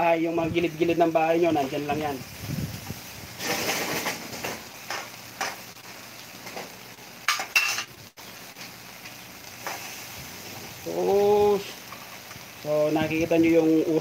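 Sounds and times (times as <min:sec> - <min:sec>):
chicken sizzling on grill: 0:00.0 - 0:14.0.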